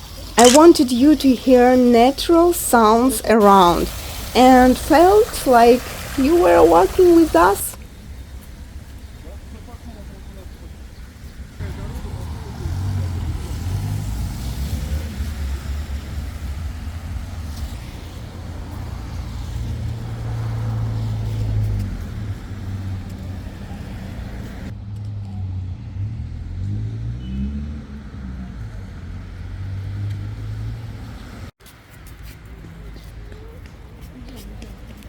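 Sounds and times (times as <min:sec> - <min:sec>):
cars driving by: 0:00.0 - 0:31.5.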